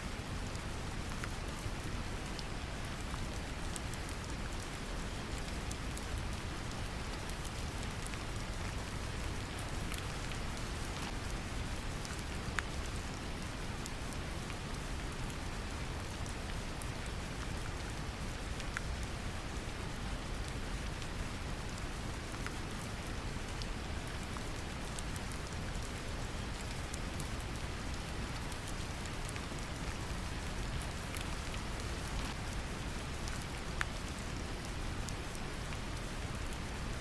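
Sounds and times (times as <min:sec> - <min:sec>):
gentle rain patter: 0:00.0 - 0:37.0.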